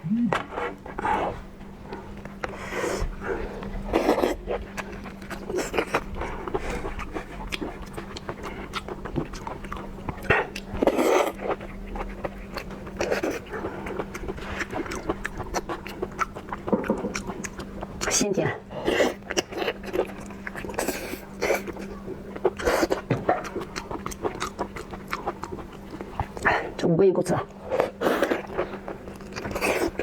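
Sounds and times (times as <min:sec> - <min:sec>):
wet chewing and lip-smacking: 0:01.9 - 0:26.8, 0:27.5 - 0:30.0.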